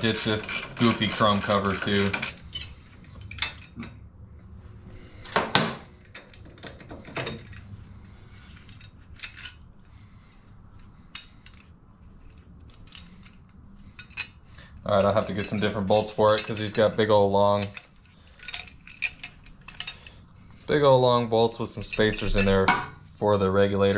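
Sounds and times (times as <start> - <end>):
hand tools and bolts clinking: 0.0 - 4.0, 6.0 - 20.2, 21.4 - 23.0.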